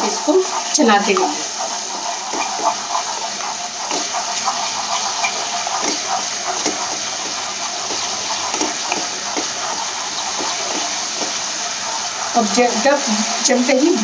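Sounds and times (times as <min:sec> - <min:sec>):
masala sizzling in a wok: 0:00.0 - 0:14.0
spatula scraping a wok: 0:00.0 - 0:14.0.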